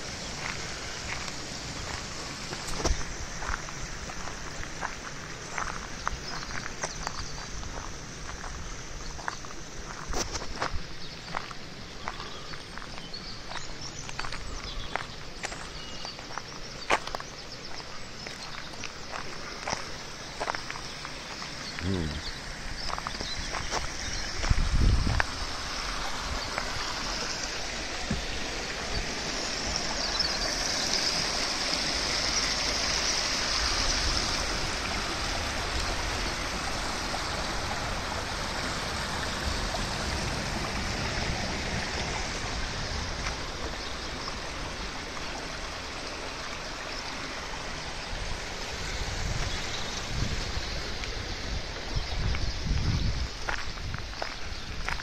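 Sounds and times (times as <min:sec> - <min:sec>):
brook babbling over stones: 0:00.0 - 0:55.0.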